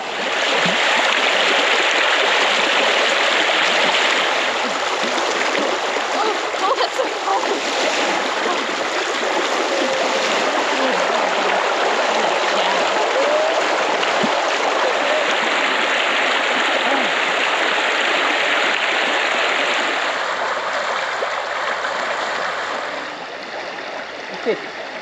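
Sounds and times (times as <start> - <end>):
fast-flowing river water: 0.0 - 25.0.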